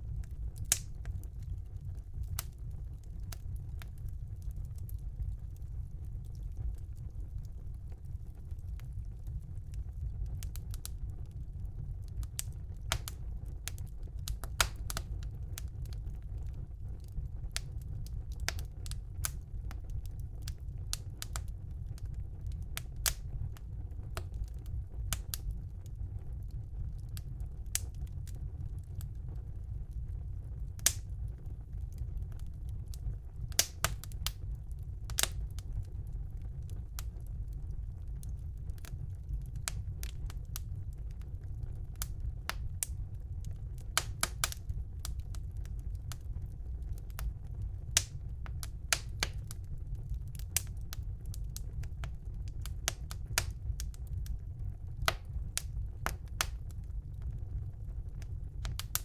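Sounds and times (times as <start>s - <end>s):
fire crackling and popping: 0.0s - 59.0s
fire rumbling: 0.0s - 59.0s.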